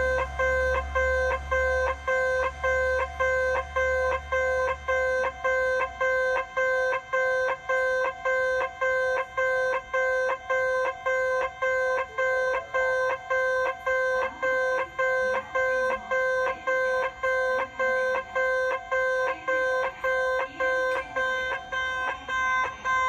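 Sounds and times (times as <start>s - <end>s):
level crossing warning bell: 0.0s - 23.0s.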